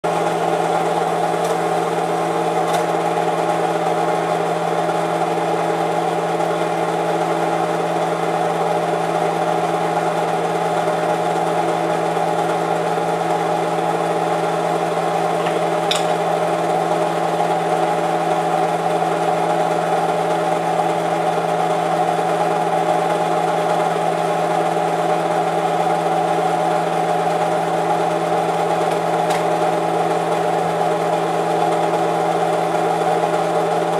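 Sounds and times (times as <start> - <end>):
film projector hum and whirr: 0.1 - 33.9.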